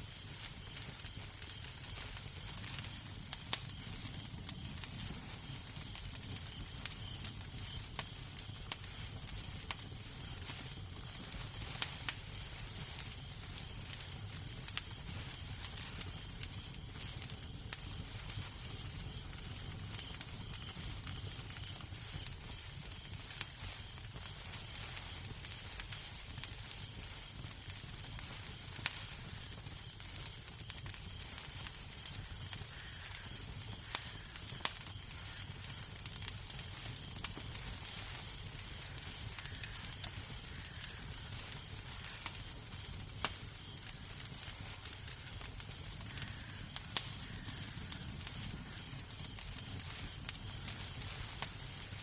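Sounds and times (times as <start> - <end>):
fire hiss and low rumble: 0.0 - 52.0
wood fire crackling: 0.0 - 52.0.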